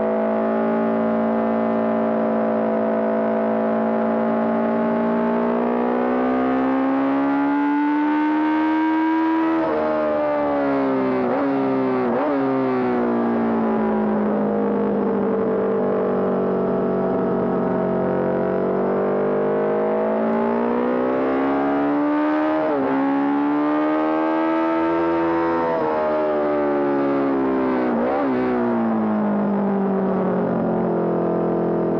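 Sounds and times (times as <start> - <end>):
motorcycle engine revving: 0.0 - 29.5.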